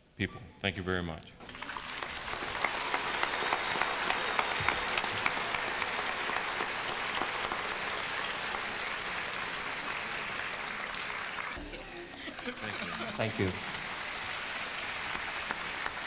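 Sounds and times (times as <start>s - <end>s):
audience applauding: 1.4s - 16.0s.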